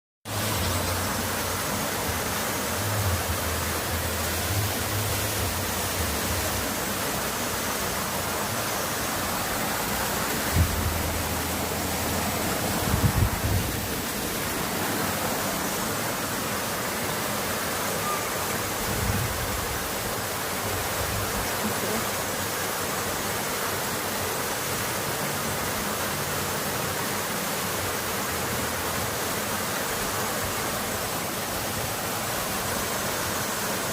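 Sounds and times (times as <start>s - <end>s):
water rushing: 0.2s - 33.9s.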